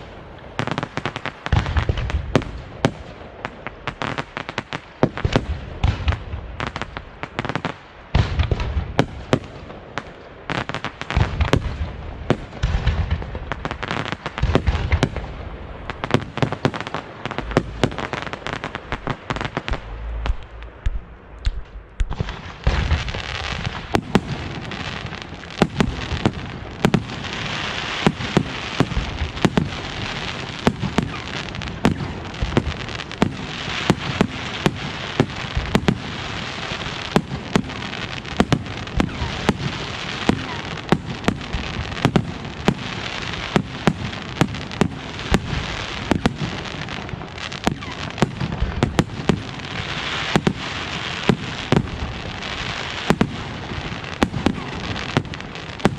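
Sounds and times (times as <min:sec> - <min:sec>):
firework bangs: 0:00.0 - 0:55.9
firework crackling: 0:00.0 - 0:55.9.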